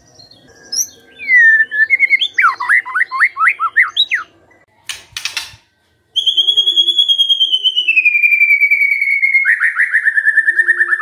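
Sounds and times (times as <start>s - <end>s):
bird whistling song: 0.0s - 4.3s, 6.1s - 11.0s.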